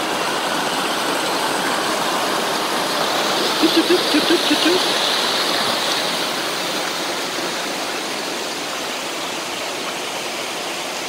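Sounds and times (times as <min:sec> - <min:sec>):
waterfall splashing over rocks: 0:00.0 - 0:11.0.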